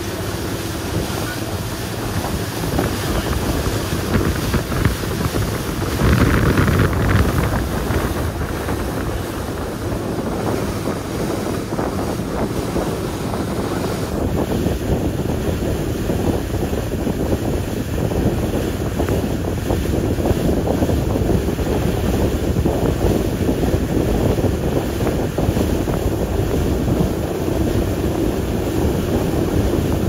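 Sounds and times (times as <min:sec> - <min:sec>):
water rushing past boat: 0:00.0 - 0:30.0
wind buffeting microphone: 0:00.0 - 0:30.0.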